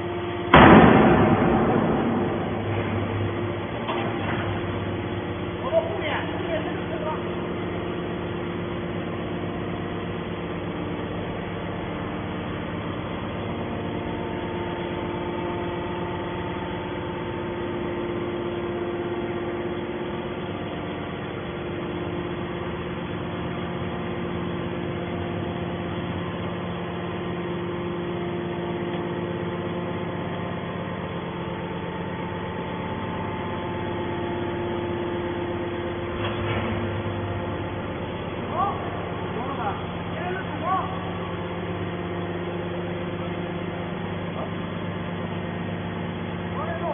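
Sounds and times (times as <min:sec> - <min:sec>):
hydraulic baler machine hum: 0:00.0 - 0:46.9.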